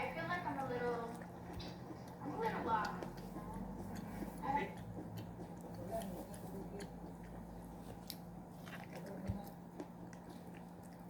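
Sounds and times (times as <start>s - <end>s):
chewing corn on the cob: 0.0s - 11.0s.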